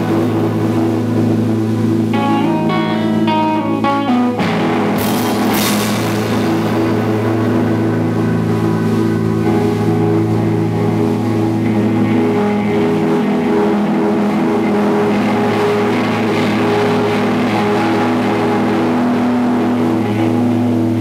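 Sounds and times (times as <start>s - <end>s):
electric guitars droning: 0.0s - 21.0s.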